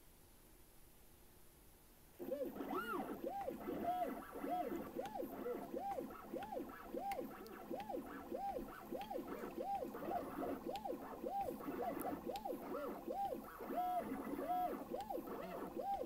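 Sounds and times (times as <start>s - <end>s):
stepper motors whining: 2.2s - 16.0s.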